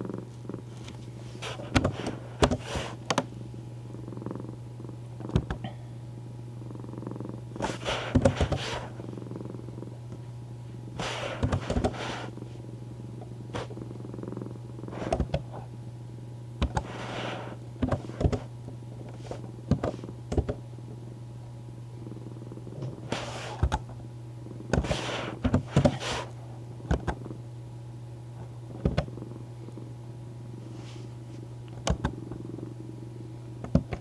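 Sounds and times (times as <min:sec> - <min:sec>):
cat purring: 0:00.0 - 0:06.0, 0:06.6 - 0:15.8, 0:16.6 - 0:21.0, 0:21.9 - 0:27.4, 0:28.4 - 0:34.0.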